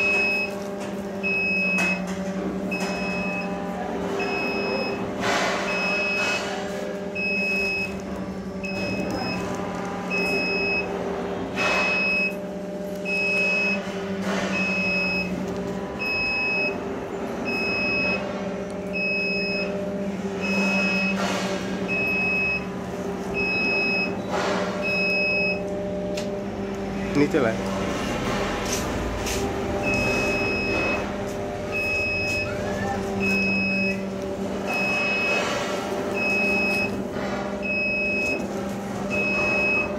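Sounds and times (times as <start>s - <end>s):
lift warning beeper: 0.0s - 25.8s, 29.7s - 39.9s.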